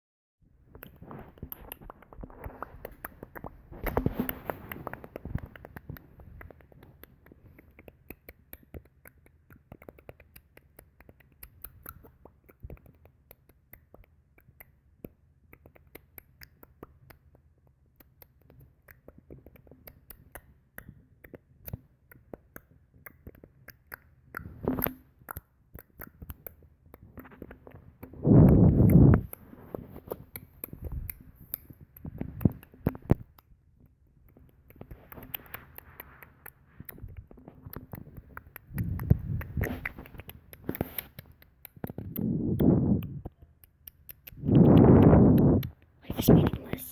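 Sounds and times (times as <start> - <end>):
person making clicking noises: 0.6 - 46.9.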